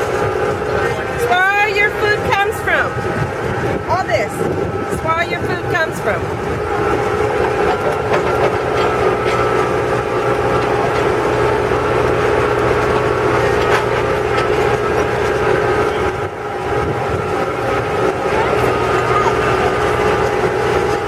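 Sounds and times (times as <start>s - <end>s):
truck engine humming: 0.0s - 21.0s.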